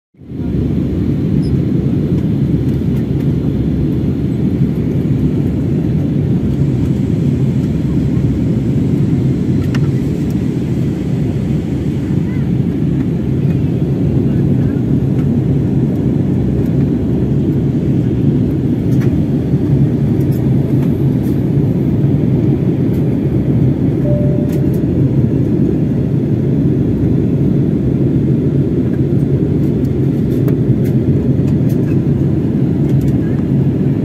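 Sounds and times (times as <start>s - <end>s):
airplane cabin engine drone: 0.2s - 34.0s.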